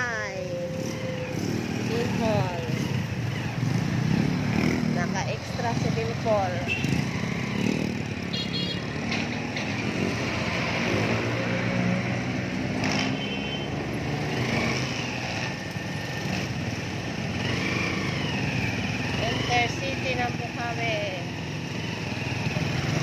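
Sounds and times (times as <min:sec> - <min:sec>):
motorcycle engine running: 0:00.0 - 0:11.6, 0:12.5 - 0:23.0
road and traffic noise: 0:00.0 - 0:23.0.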